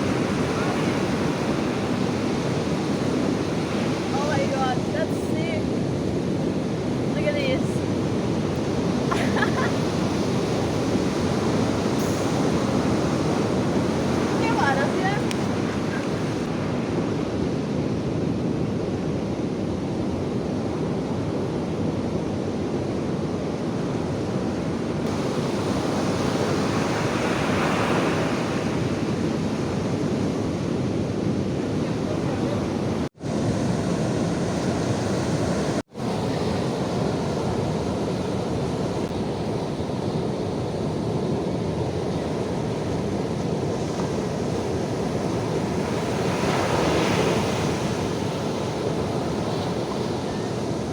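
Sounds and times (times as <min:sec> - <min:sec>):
ocean surf washing onto beach: 0:00.0 - 0:50.9
wind buffeting microphone: 0:00.0 - 0:50.9.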